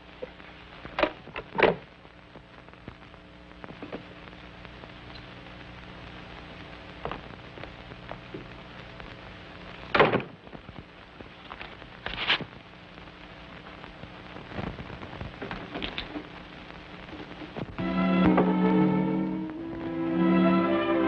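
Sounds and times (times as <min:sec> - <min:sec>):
film soundtrack hiss and hum: 0:00.0 - 0:21.0.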